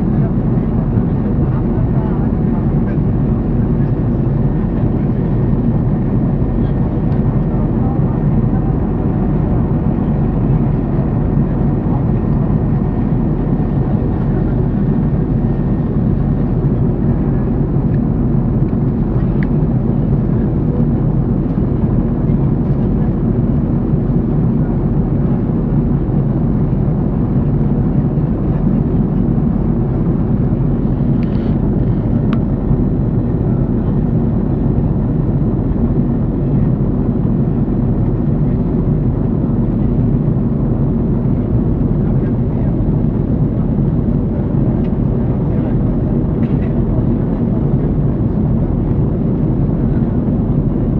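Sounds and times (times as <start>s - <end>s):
airliner cabin engine rumble: 0.0s - 50.9s.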